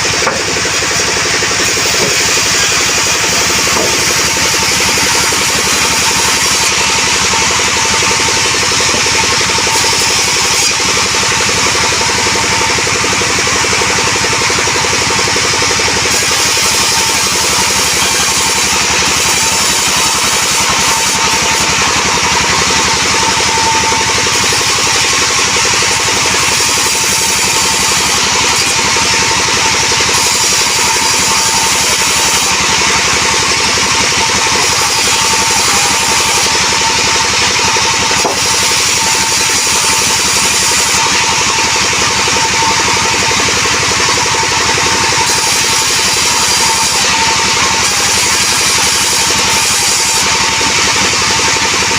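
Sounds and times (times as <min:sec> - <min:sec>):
band saw blade cutting wood: 0:00.0 - 0:51.9
sawmill engine pulsing: 0:00.0 - 0:51.9.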